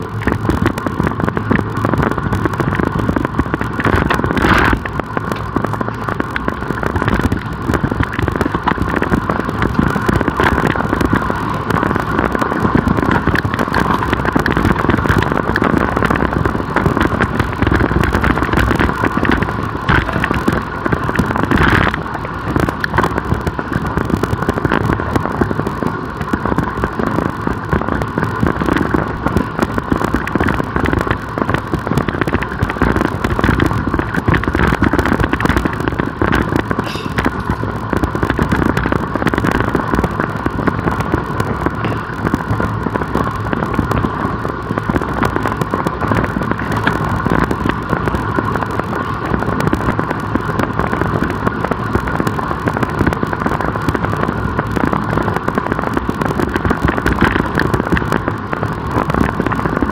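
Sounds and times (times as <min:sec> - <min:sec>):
wind and road noise: 0:00.0 - 0:59.9
wind buffeting microphone: 0:00.0 - 0:59.9.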